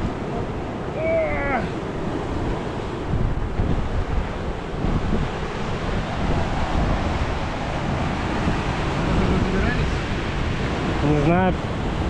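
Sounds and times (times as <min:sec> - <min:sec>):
surf breaking on rocky shore: 0:00.0 - 0:12.0
wind buffeting microphone: 0:00.0 - 0:12.0.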